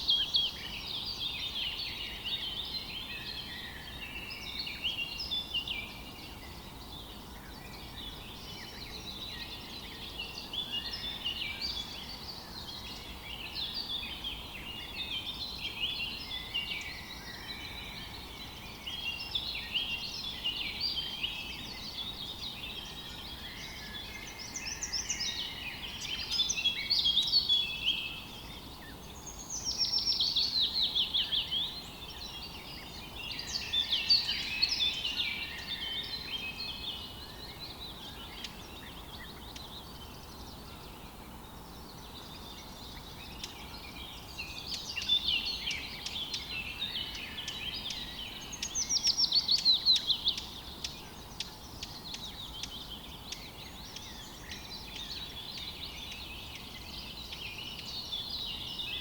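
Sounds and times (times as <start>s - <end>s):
birds chirping and singing: 0.0s - 59.0s
faint background hiss: 0.0s - 59.0s.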